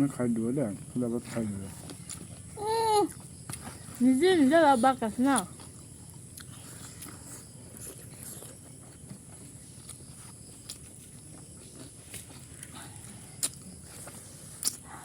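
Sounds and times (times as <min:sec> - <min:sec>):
person chewing food: 0:01.4 - 0:04.0, 0:05.4 - 0:15.0.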